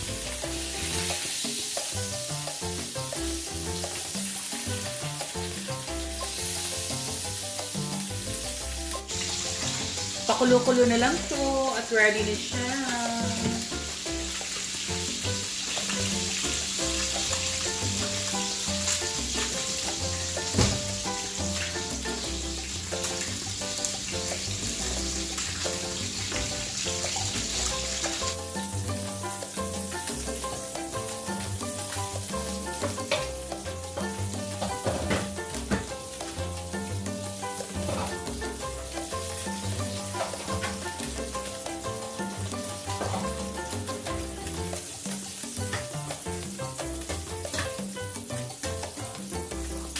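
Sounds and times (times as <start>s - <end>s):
background music: 0.0s - 49.9s
pot bubbling and sizzling: 0.0s - 49.9s.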